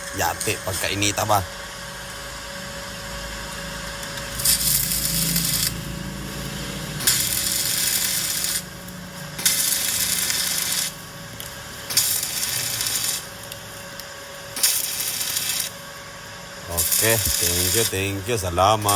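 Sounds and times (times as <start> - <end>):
arc welding crackling sizzle: 0.0 - 18.9
welding machine hum: 0.0 - 18.9.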